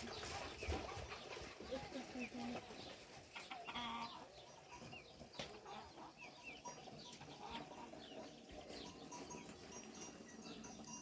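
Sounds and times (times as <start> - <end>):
chicken clucking: 0.0 - 11.0
small birds chirping: 0.0 - 11.0.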